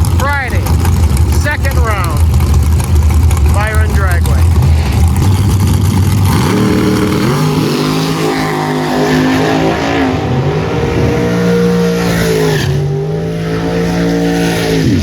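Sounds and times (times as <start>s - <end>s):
drag racing car engine: 0.0s - 15.0s.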